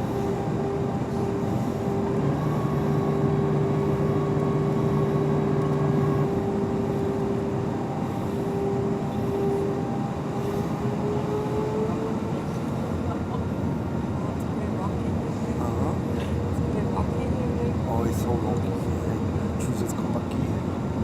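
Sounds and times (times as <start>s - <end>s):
low hum: 0.0s - 17.5s
airliner engine drone: 0.0s - 21.0s.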